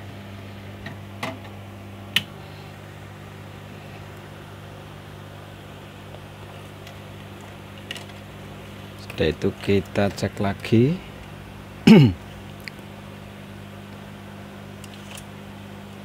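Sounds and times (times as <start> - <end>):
fan-like hiss: 0.0 - 16.0
low electrical hum: 0.0 - 16.0.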